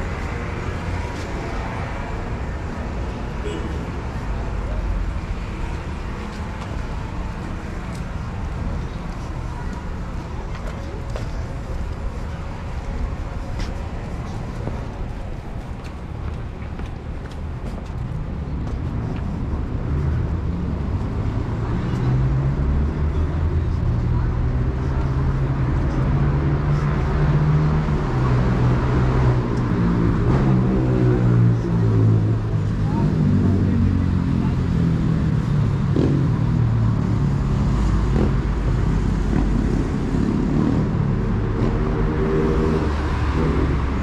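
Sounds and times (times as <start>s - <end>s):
cars driving past: 0.0s - 44.0s
vehicle engine rumbling: 0.0s - 44.0s.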